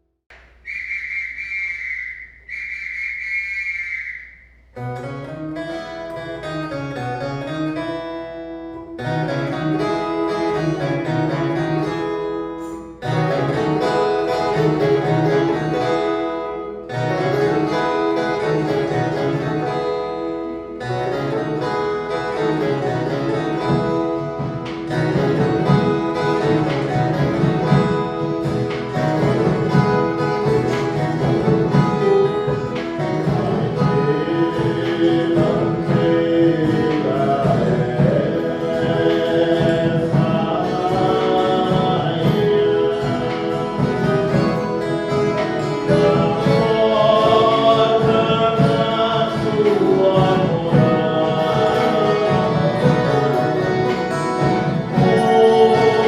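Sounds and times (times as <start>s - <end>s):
guitar ensemble playing: 4.6s - 56.0s.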